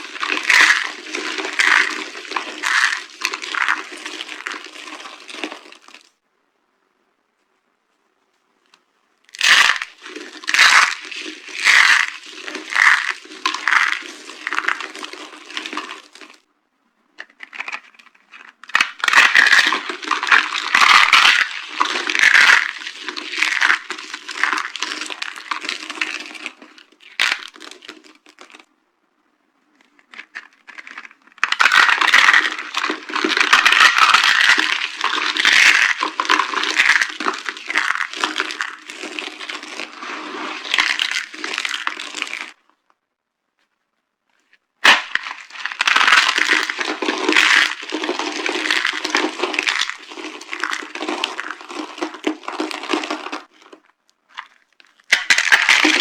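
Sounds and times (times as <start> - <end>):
dry soap crunching and crackling: 0.0 - 6.2, 9.2 - 16.5, 17.2 - 28.7, 29.7 - 42.9, 43.6 - 56.0.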